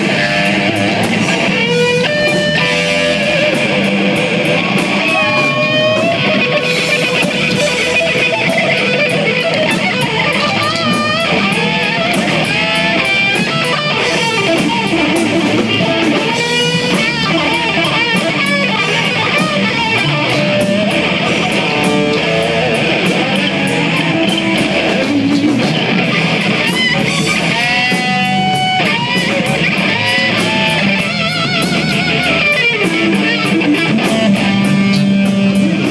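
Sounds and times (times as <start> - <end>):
drums with cymbal hits: 0.0 - 35.9
electric guitar lead with string bends: 0.0 - 35.9.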